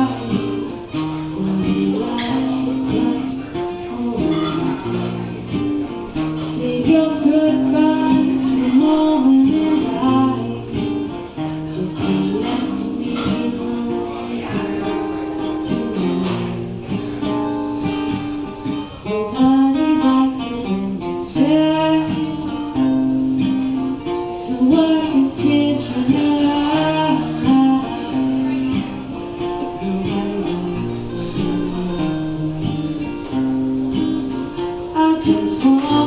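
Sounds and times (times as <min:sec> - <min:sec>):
acoustic guitar: 0:00.0 - 0:36.0
woman singing: 0:00.0 - 0:36.0.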